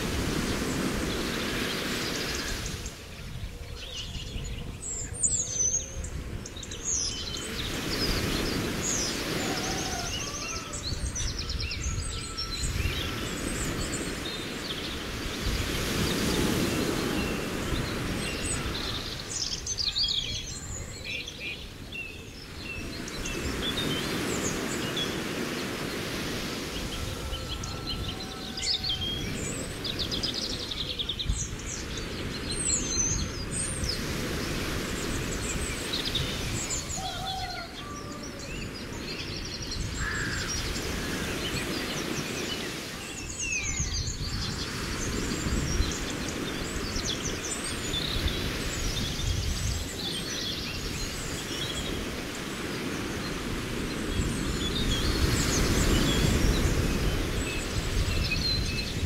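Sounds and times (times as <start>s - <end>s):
birds chirping: 0.1s - 59.0s.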